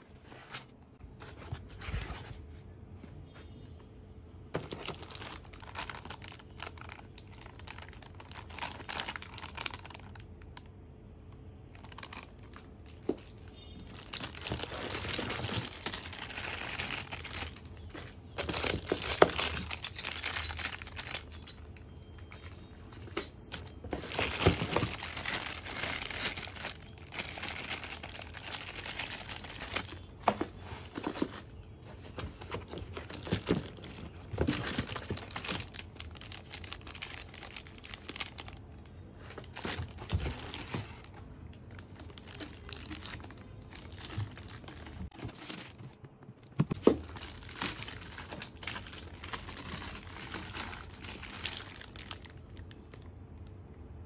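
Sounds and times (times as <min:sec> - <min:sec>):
plastic bags crinkling: 0:04.6 - 0:10.8, 0:11.6 - 0:53.5.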